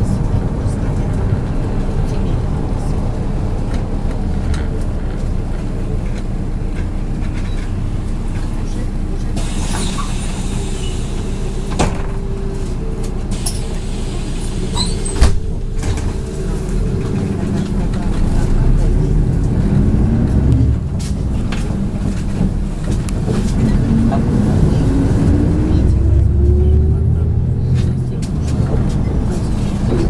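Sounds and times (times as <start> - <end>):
bus engine and road drone: 0.0 - 30.0.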